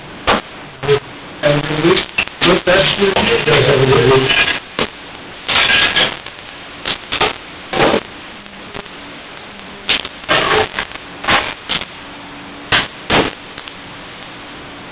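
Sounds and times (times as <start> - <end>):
steady hiss: 0.0 - 14.9.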